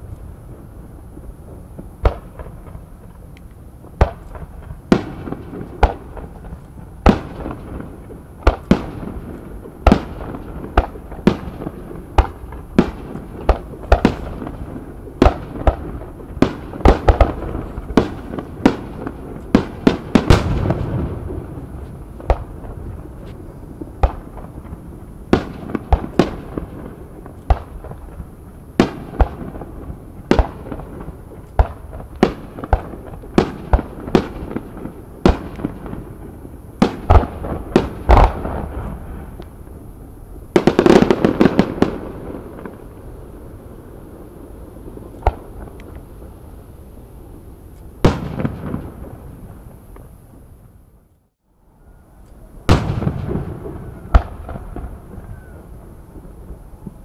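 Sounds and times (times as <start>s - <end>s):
fireworks shells booming: 3.9s - 43.3s, 47.9s - 50.1s, 52.6s - 57.0s.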